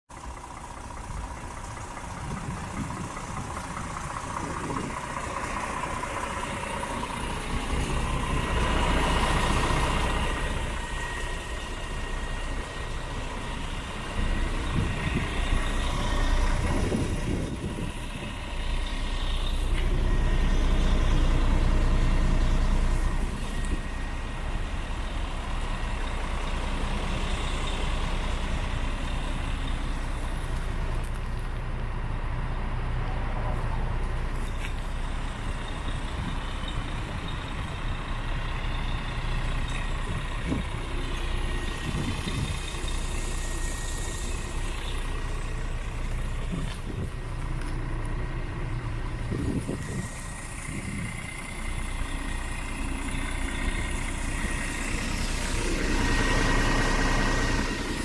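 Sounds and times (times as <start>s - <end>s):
diesel truck engine idling: 0.1s - 58.0s.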